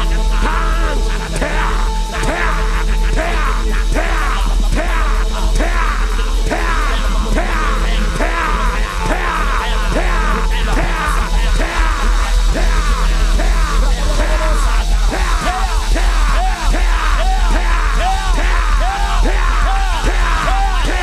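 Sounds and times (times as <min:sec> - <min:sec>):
background music: 0:00.0 - 0:21.0
man shouting rapid syllables: 0:00.0 - 0:21.0.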